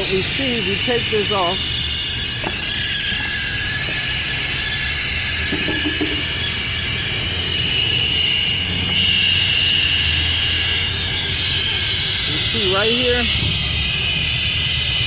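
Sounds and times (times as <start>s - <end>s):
hissing whistle of vacuum leak: 0.0s - 15.0s.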